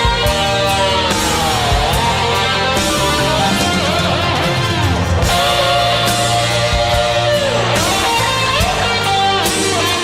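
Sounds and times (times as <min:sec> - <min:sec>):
electric guitar lead: 0:00.0 - 0:10.0
rock band playing: 0:00.0 - 0:10.0.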